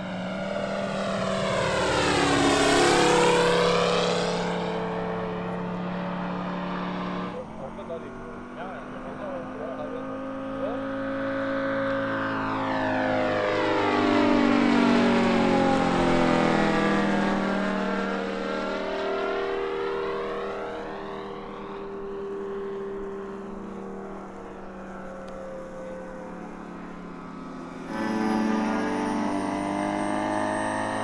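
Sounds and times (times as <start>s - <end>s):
model plane engine flyby: 0.0s - 31.0s.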